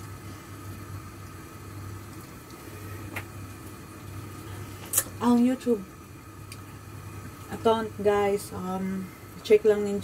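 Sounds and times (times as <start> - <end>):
appliance electrical hum: 0.0 - 10.0.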